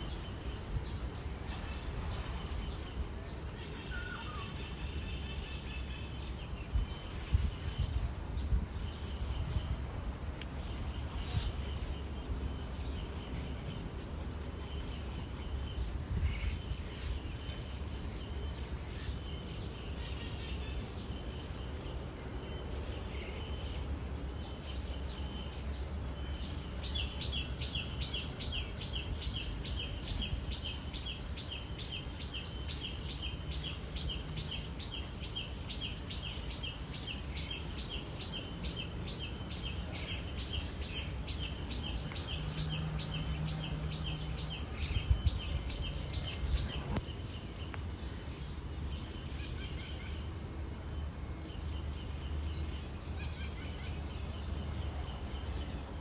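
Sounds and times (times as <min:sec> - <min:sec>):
cicadas droning: 0:00.0 - 0:56.0.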